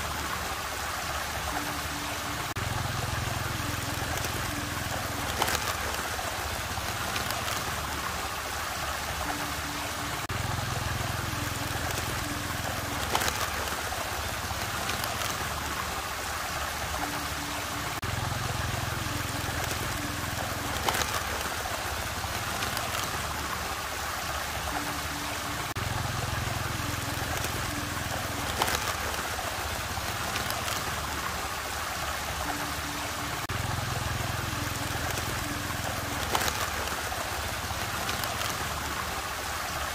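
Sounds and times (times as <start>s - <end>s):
swirling water rushing: 0.0s - 39.9s.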